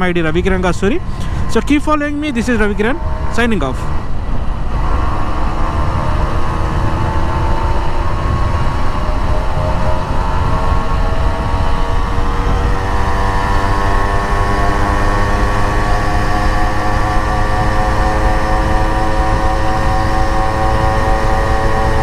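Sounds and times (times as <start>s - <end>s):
two-stroke engine running: 0.0s - 22.0s
wind rumbling on microphone: 0.0s - 22.0s.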